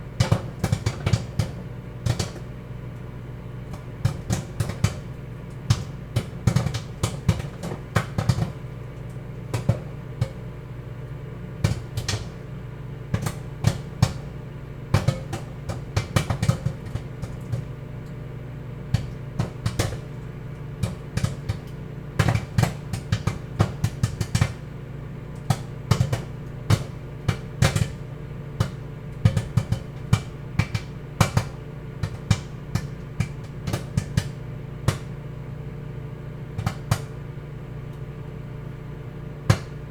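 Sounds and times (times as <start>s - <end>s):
microwave oven hum: 0.0s - 39.9s
popcorn popping: 0.0s - 39.9s.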